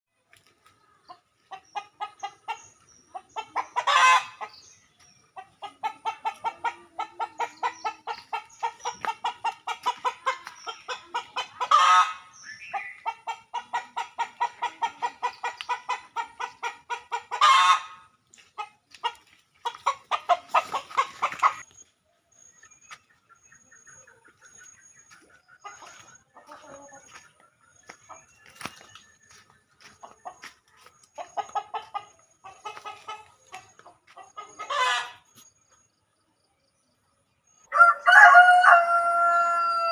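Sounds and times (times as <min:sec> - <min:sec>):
chickens clucking: 0:00.2 - 0:39.9.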